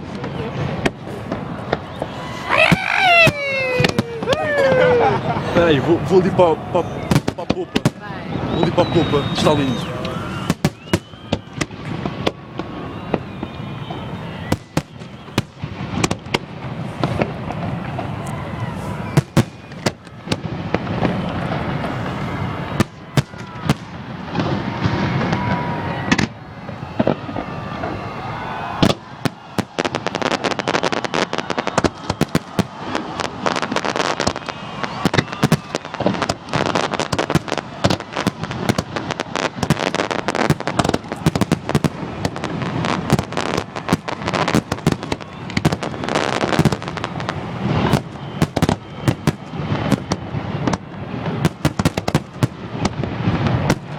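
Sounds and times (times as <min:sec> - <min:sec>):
fireworks bursting and crackling: 0:00.0 - 0:53.9.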